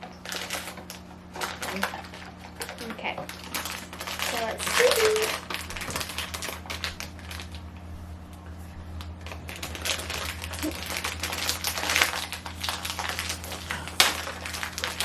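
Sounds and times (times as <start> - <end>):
package crinkling and tearing: 0.0 - 7.9, 9.0 - 15.0
steady low hum: 0.0 - 15.0.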